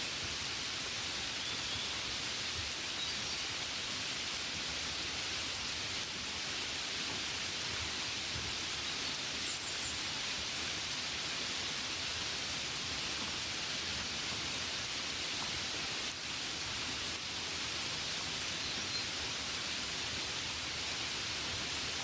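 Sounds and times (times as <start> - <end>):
rain on a window: 0.0 - 22.0.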